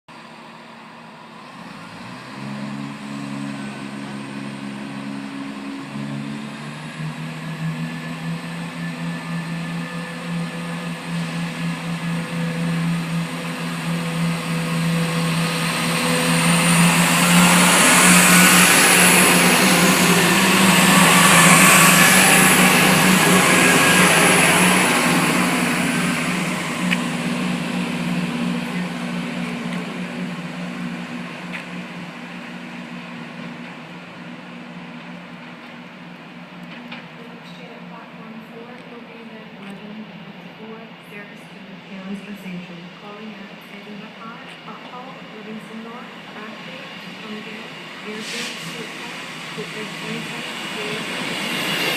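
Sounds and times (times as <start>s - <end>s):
train running through station: 0.1s - 51.9s.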